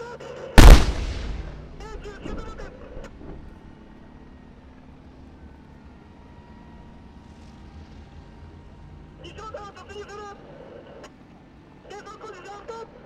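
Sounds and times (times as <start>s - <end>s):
tank engines and tracks rumbling: 0.6s - 12.2s.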